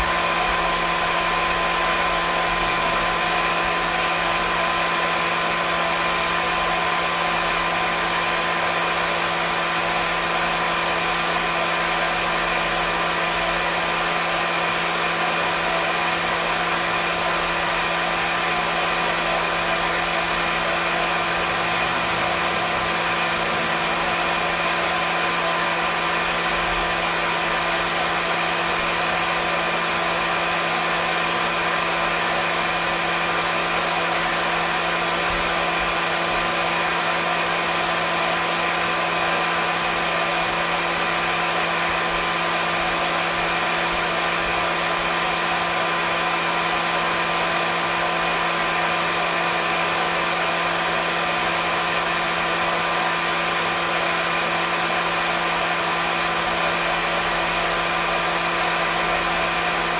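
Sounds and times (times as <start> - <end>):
hair dryer motor hum: 0.0 - 59.9
hair dryer rush of air: 0.0 - 59.9.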